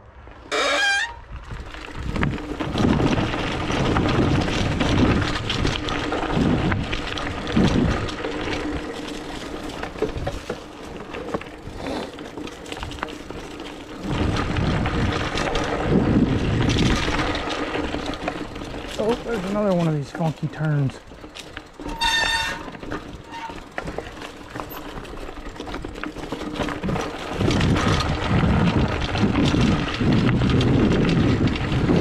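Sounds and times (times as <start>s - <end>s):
bike clicking and rattling: 0.0s - 32.0s
bike tyres on dirt: 0.0s - 32.0s
wind buffeting microphone: 1.2s - 20.0s, 21.9s - 32.0s.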